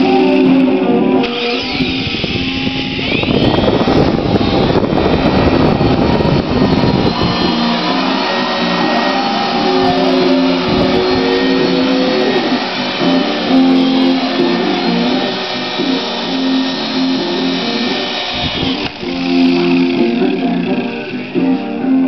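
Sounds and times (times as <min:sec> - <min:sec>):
plucked guitar music: 0:00.0 - 0:02.0, 0:04.0 - 0:22.0.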